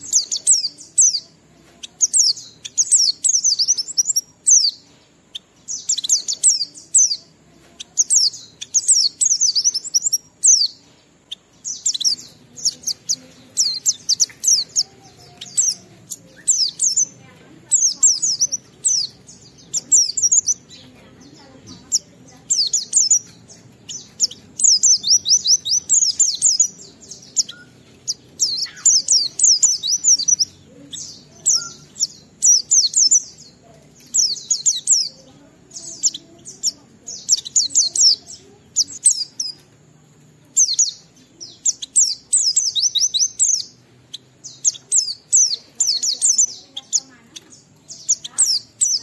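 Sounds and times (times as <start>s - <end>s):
bird high twittering song: 0.0s - 49.0s.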